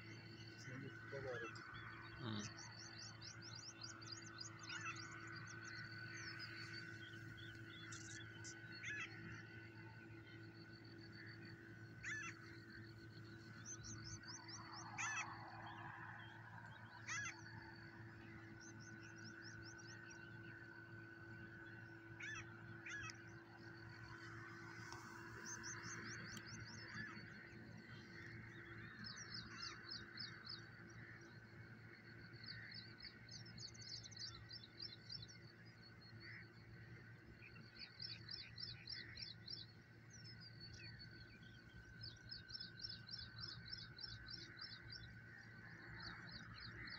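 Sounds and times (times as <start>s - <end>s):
soft background hum: 0.0s - 46.9s.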